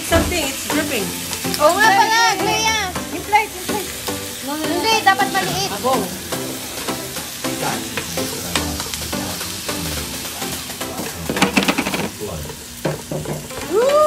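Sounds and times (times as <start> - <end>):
person's voice: 0.0 - 12.6
meat sizzling on grill pan: 0.0 - 14.0.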